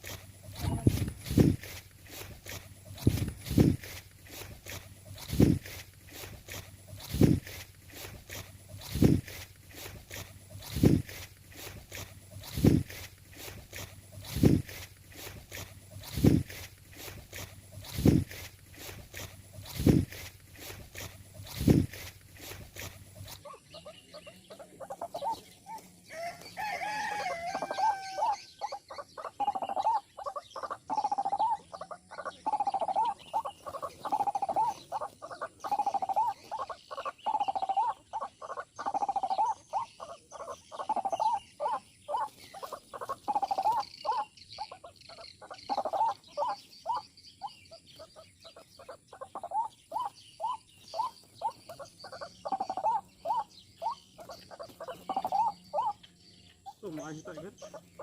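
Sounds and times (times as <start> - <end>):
bird sliding call: 0.0 - 47.5, 48.1 - 56.0
bird hollow calling notes: 0.0 - 58.0.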